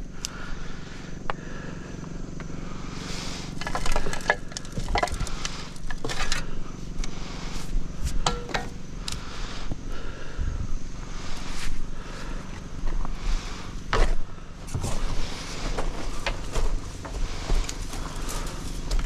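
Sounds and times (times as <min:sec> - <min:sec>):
engine idling hum: 0:00.0 - 0:19.0.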